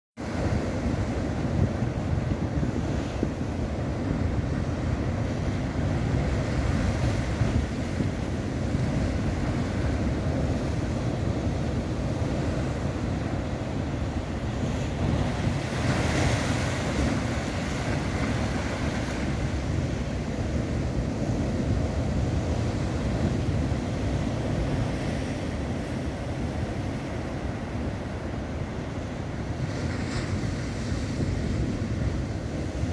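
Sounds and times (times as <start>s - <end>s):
surf washing among boulders: 0.2s - 32.9s
wave crashing on rocks: 0.2s - 32.9s.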